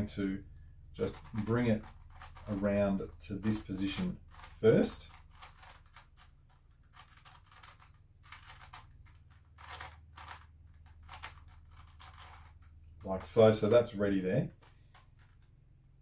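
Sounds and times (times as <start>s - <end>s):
plastic puzzle clicking and scraping: 0.5s - 15.6s.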